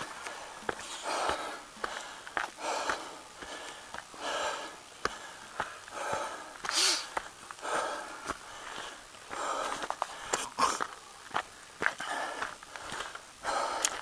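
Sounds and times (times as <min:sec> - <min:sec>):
footsteps on dirt path: 0:00.0 - 0:14.0
person breathing hard: 0:00.0 - 0:14.0.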